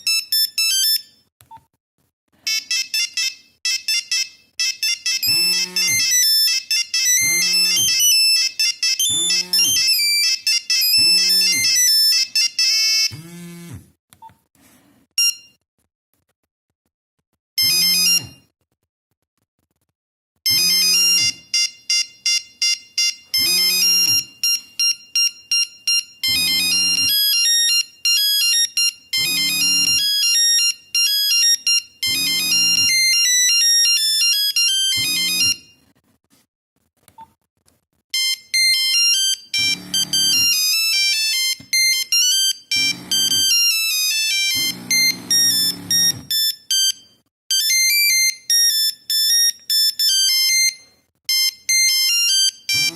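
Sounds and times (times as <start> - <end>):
mobile phone ringtone melodies: 0.0 - 1.2, 2.5 - 13.7, 15.2 - 15.5, 17.6 - 18.4, 20.5 - 35.9, 38.2 - 52.9.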